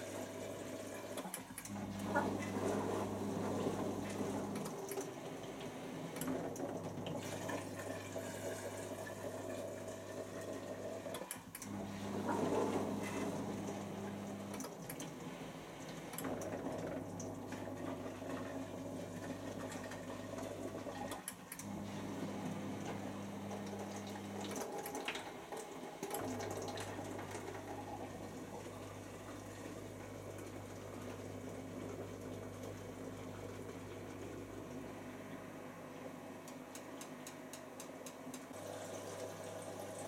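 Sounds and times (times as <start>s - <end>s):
low pump hum: 0.0s - 37.7s.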